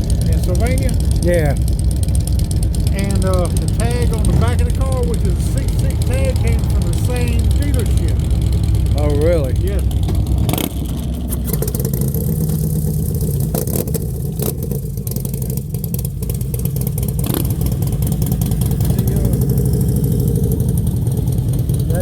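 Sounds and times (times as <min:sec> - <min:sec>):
motorcycle engines rumbling and revving: 0:00.0 - 0:22.0.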